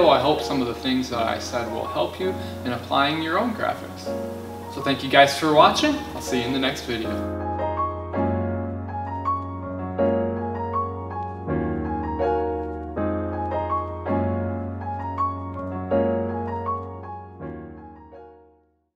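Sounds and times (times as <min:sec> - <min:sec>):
keyboard music: 0:00.0 - 0:18.6.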